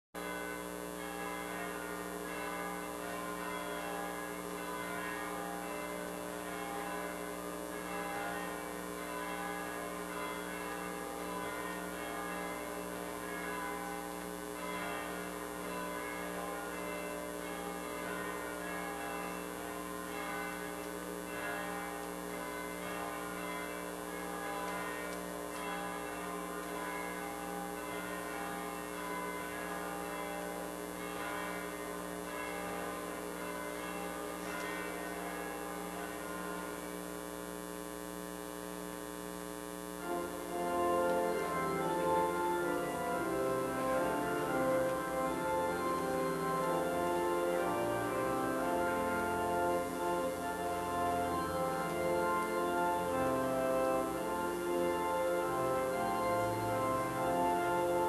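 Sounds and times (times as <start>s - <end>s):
church bells ringing: 0.2s - 37.3s, 40.0s - 58.0s.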